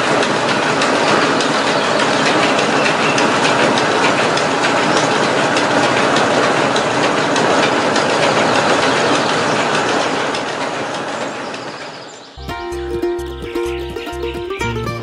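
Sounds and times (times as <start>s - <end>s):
small flour mill rattling: 0.0s - 12.3s.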